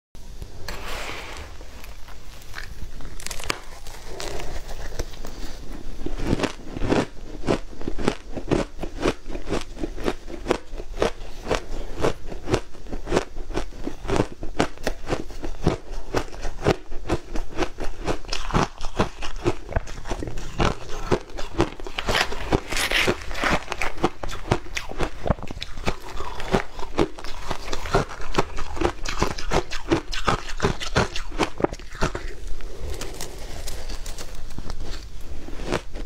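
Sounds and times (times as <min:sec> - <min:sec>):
chewing crunchy ice: 0:02.4 - 0:36.0.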